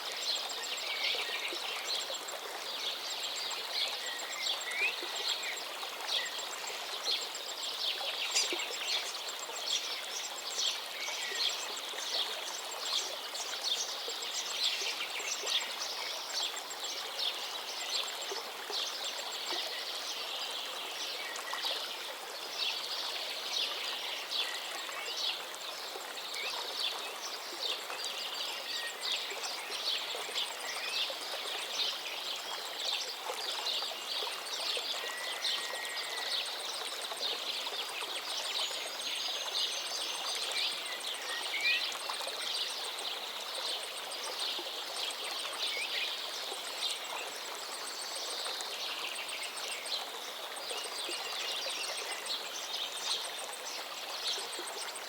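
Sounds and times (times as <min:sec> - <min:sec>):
river flowing: 0:00.0 - 0:55.0
songbirds singing: 0:00.0 - 0:55.0.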